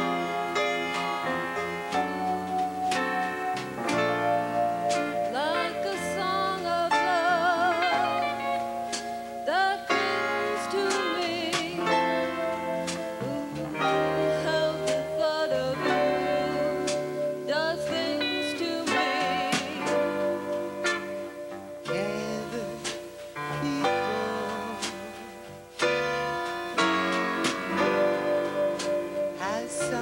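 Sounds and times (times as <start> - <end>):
live band playing slow melody: 0.0 - 30.0.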